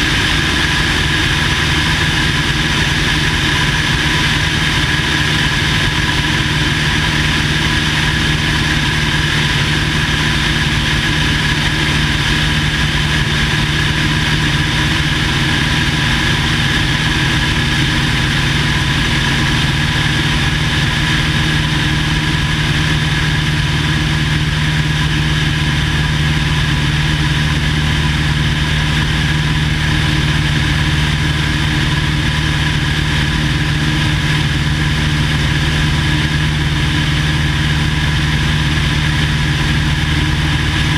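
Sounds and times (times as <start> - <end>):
airplane engine and propeller droning: 0.0 - 40.9.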